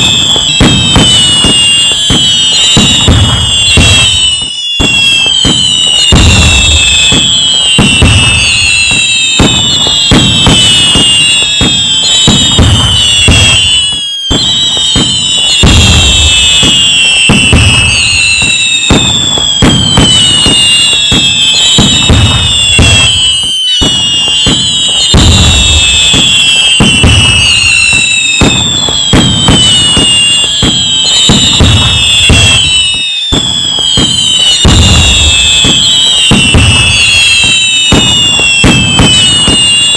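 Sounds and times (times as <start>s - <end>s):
falling firework whistles: 0.0s - 39.9s
fireworks bangs and crackling: 0.0s - 39.9s.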